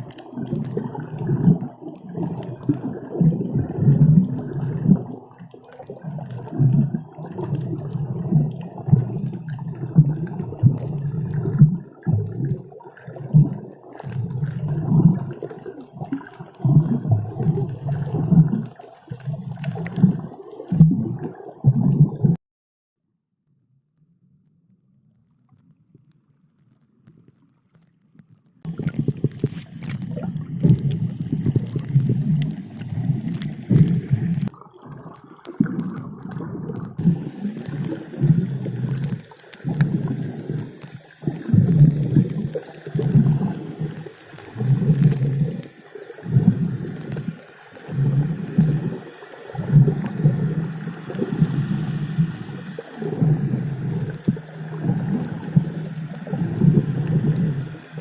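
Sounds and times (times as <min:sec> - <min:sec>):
underwater bubbling and gurgling: 0:00.0 - 0:22.4, 0:25.5 - 0:58.0.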